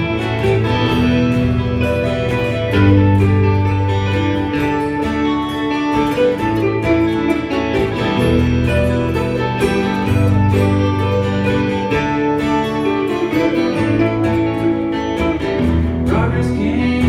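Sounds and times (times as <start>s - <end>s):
guitars playing melody notes: 0.0s - 17.0s
steady low bass line: 0.0s - 17.0s.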